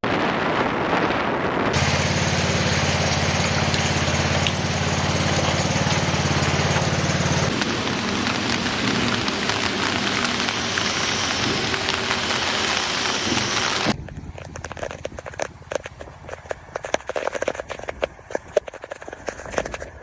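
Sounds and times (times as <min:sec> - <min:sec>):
heavy rain and wind: 0:00.0 - 0:20.0
low engine hum: 0:01.8 - 0:20.0.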